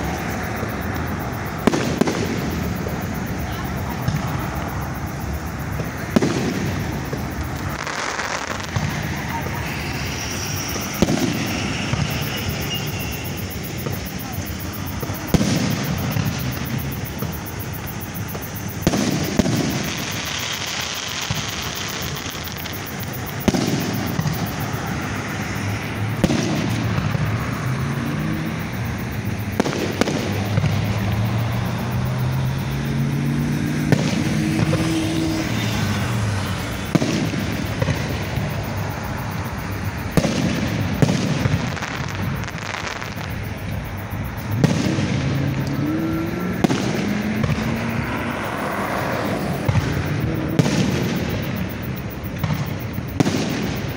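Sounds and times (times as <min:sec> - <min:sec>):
fireworks crackle and rumble: 0:00.0 - 0:53.9
firework shells bursting with booms: 0:01.4 - 0:04.8, 0:05.7 - 0:32.2, 0:33.8 - 0:45.7, 0:46.5 - 0:48.1, 0:49.6 - 0:53.9.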